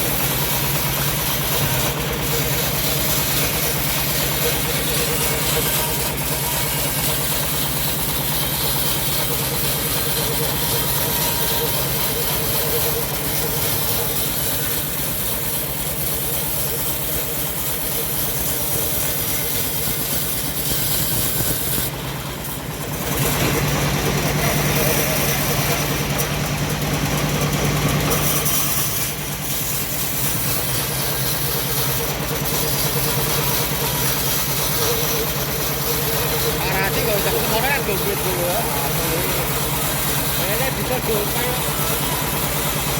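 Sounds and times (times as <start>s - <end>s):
bandsaw sawmill running: 0.0s - 42.9s.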